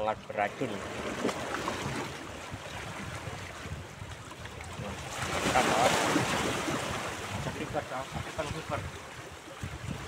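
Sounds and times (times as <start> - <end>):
waves lapping against rocks: 0.2 - 10.0
wind buffeting microphone: 0.9 - 10.0.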